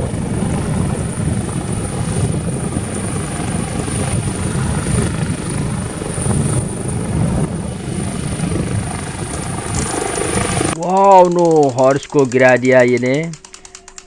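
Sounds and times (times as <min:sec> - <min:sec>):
high motor whine: 0:00.0 - 0:14.0
toy helicopter rotor whirring: 0:00.0 - 0:14.0.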